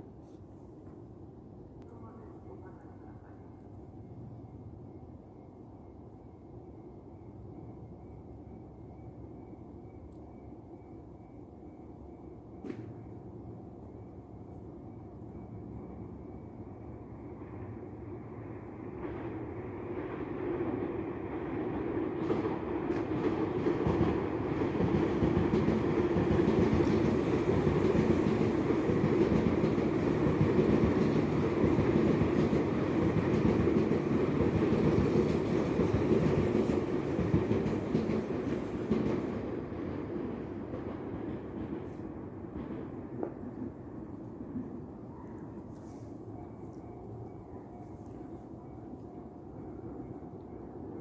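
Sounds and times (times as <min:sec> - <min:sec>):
electric train passing: 0:02.4 - 0:51.0.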